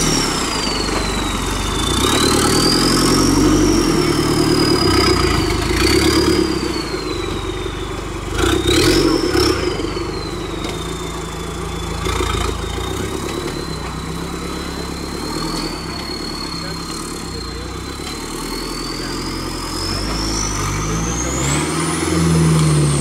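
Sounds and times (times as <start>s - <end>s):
high whine: 0.0s - 23.0s
jeep engine revving: 0.0s - 23.0s.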